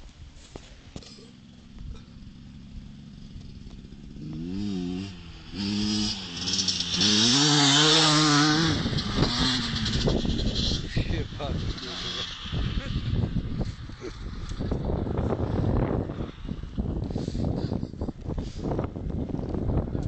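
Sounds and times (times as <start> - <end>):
motocross bike engine revving: 1.0 - 17.8.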